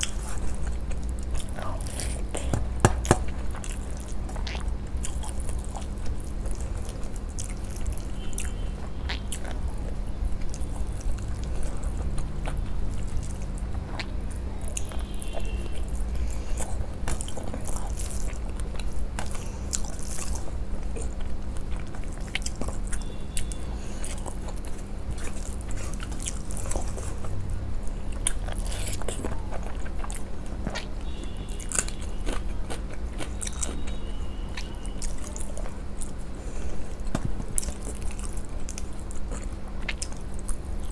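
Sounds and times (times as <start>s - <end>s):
chewing: 0.0s - 40.9s
steady low hum: 0.0s - 40.9s.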